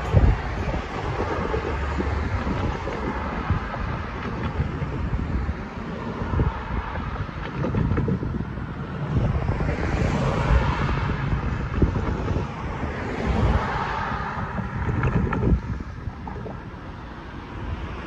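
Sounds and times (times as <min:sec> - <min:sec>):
car passing: 0:00.0 - 0:18.0
road traffic: 0:00.0 - 0:18.0
wind buffeting microphone: 0:00.0 - 0:18.0.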